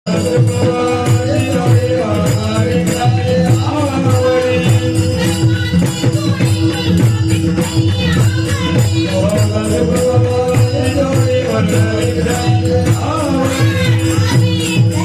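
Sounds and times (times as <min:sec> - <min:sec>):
drum beat: 0:00.1 - 0:15.0
hand cymbals jingling: 0:00.1 - 0:15.0
woman singing devotional melody: 0:00.1 - 0:15.0.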